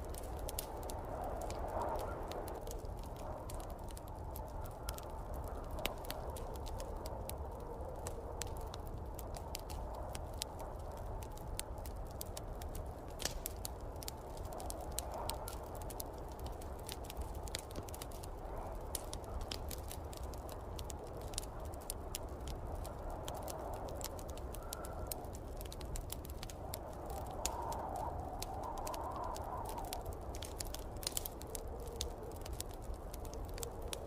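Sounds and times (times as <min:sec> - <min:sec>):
low rumble of wind: 0:00.0 - 0:34.0
wood fire crackling: 0:00.0 - 0:34.0.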